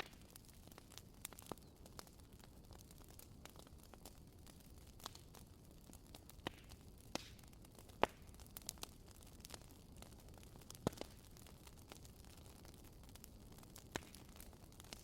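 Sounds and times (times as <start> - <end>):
fire popping: 0.0 - 15.0
firewood crackling: 0.0 - 15.0.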